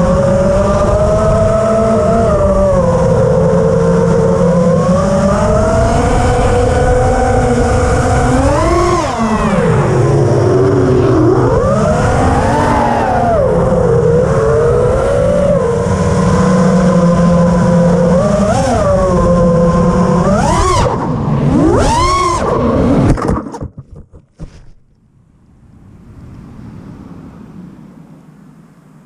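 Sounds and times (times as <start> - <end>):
drone motors whining: 0.0 - 23.2.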